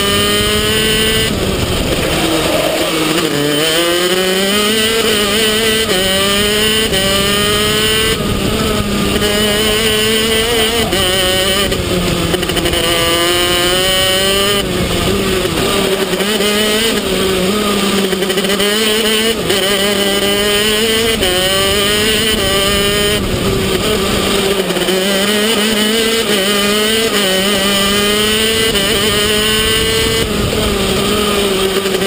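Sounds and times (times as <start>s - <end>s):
kart engine revving: 0.0s - 32.0s.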